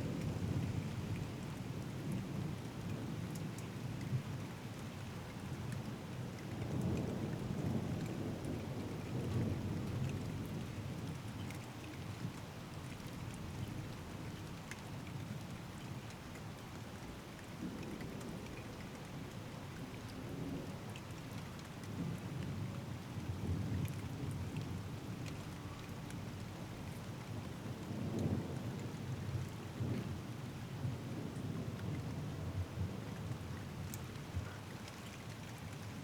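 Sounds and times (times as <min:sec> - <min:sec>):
steady rain: 0:00.0 - 0:36.0
raindrops ticking close: 0:00.1 - 0:29.0, 0:31.3 - 0:36.0.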